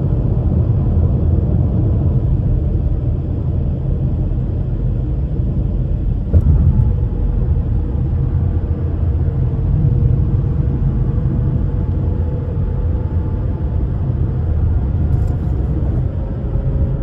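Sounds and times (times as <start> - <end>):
road and tyre rumble in car: 0.0 - 17.0.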